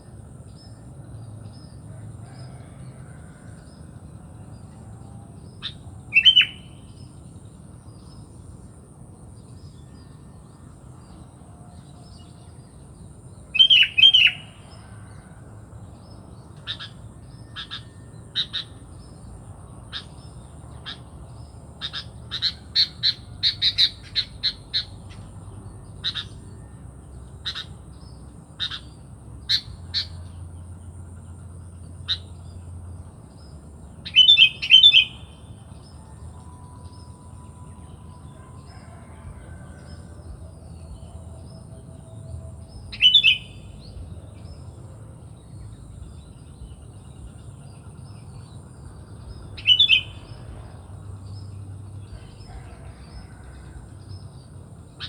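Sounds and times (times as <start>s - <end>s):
bird chirping: 3.4s - 8.3s, 9.3s - 15.0s, 15.9s - 55.0s.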